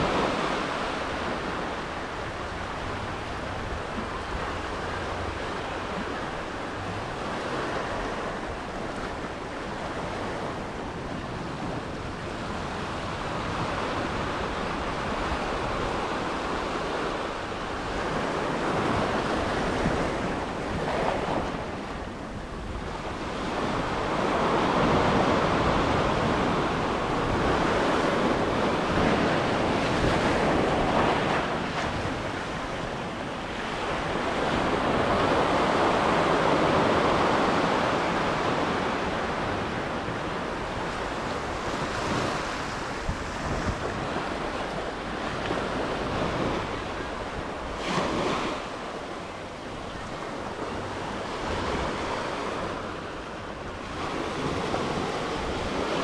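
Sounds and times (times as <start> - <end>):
surf washing over rocks: 0.0 - 56.0
wind rumbling on microphone: 0.0 - 56.0.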